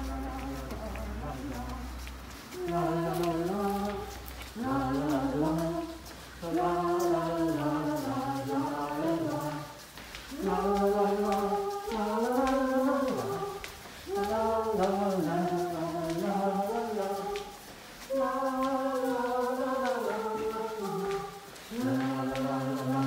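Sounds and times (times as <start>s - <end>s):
a cappella choir singing: 0.0s - 23.0s.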